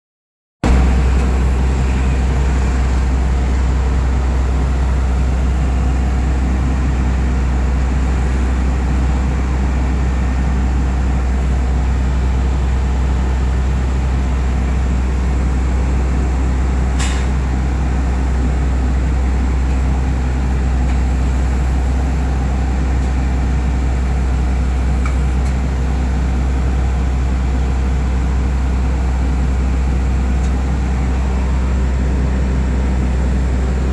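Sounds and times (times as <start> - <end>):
engine idling: 0.6 - 33.9.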